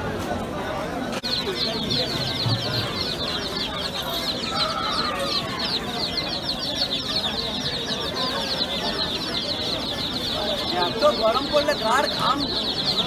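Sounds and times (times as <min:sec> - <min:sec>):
baby chicks peeping: 0:01.1 - 0:13.0.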